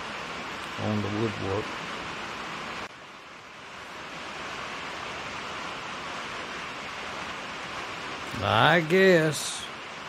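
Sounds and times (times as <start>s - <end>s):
rain on a metal roof: 0.0s - 10.0s.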